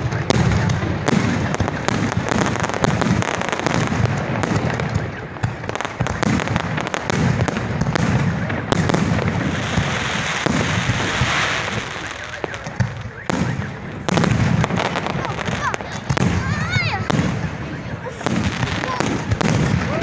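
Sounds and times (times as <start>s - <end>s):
fireworks cracking and popping: 0.0s - 20.0s.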